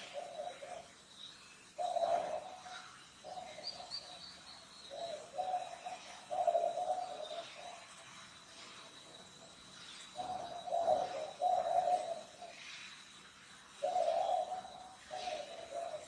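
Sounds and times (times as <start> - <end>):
bird cooing: 0.0 - 13.1, 13.7 - 16.0
faint high-pitched whine: 0.0 - 16.0.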